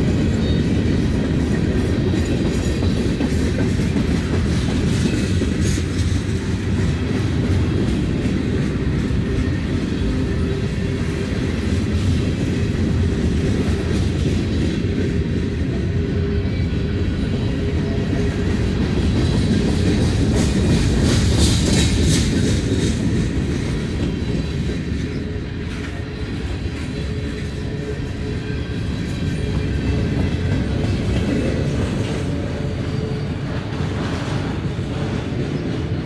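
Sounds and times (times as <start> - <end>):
freight train cars rumbling past: 0.0 - 36.0.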